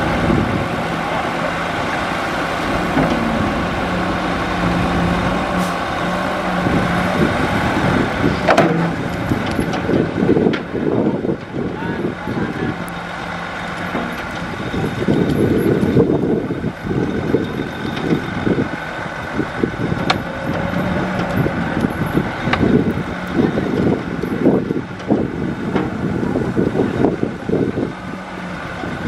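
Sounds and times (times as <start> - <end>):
heavy diesel machinery running: 0.0 - 29.0.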